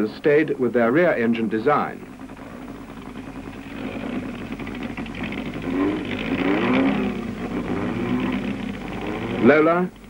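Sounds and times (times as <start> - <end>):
racing car engines running: 0.0 - 10.0.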